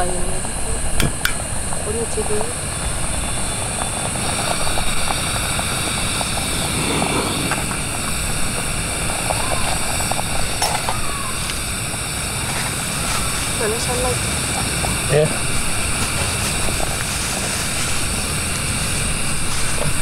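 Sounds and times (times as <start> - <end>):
gas stove burner running: 0.0 - 20.0
soup boiling in pot: 0.0 - 20.0.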